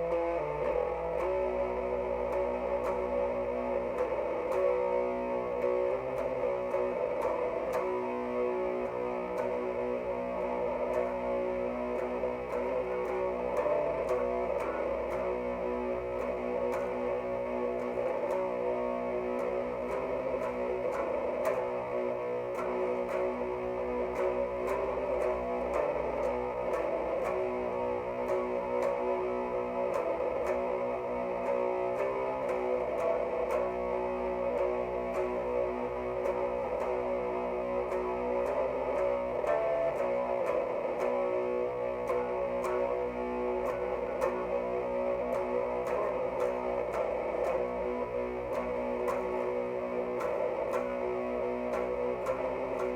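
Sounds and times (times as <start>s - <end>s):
overdriven electric guitar chords: 0.0s - 52.9s.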